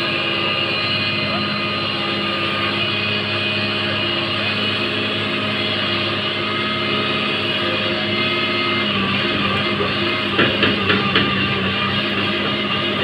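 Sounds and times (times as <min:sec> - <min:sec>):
ship diesel engines droning: 0:00.0 - 0:13.0.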